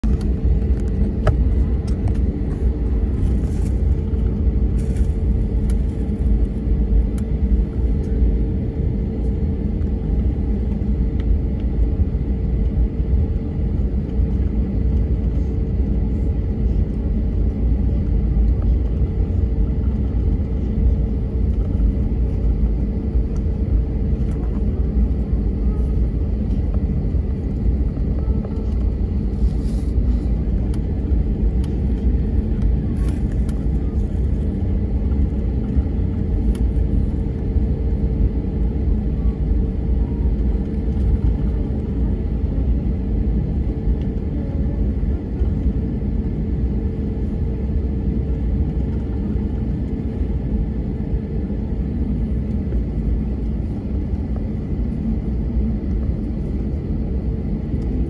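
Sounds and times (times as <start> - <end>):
airliner cabin rumble: 0.0 - 58.0
constant engine hum: 0.0 - 58.0.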